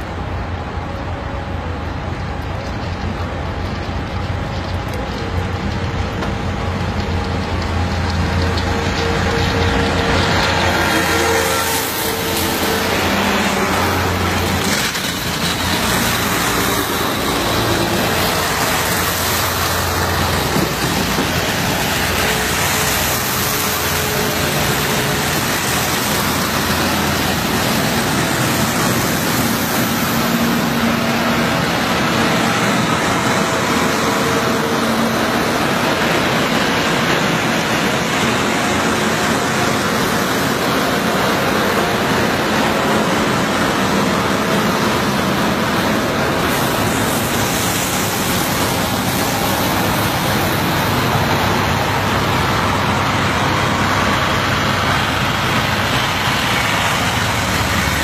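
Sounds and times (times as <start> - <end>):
truck diesel engines: 0.0 - 58.0
plow blades scraping snow: 1.4 - 58.0.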